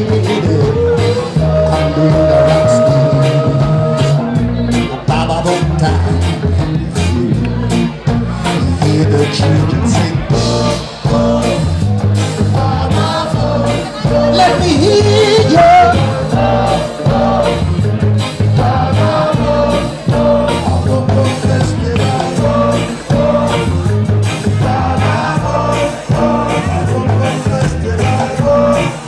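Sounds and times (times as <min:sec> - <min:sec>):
person singing: 0:00.0 - 0:29.0
ska band playing: 0:00.0 - 0:29.0.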